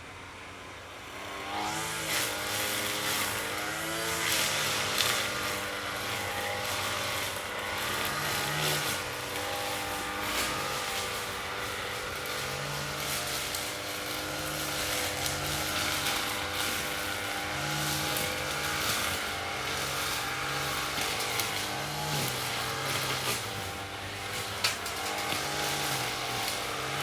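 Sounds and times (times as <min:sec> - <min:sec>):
lawn mower engine running: 0:00.2 - 0:27.0.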